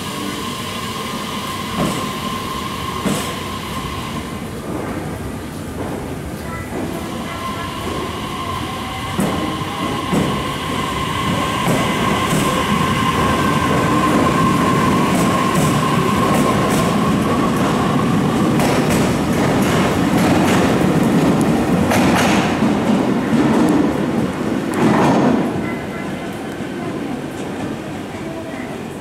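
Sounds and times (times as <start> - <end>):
train running: 0.0 - 29.0.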